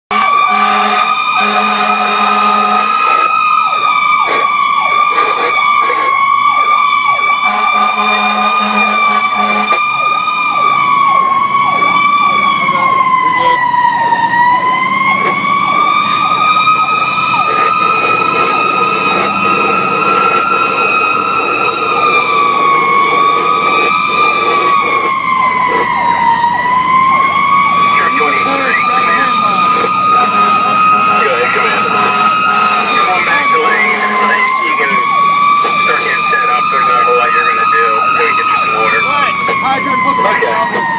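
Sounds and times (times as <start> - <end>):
low horn pulses: 0.1 - 3.3, 7.2 - 9.9, 11.0 - 40.9
siren rapid yelp: 0.1 - 40.9
siren wailing: 0.1 - 40.9.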